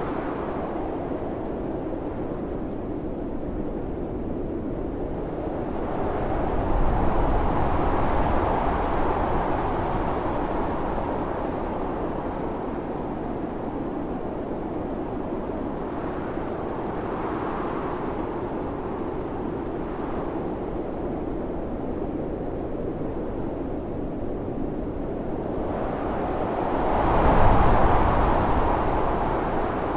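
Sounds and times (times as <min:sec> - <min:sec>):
blizzard wind gusting: 0:00.0 - 0:29.9.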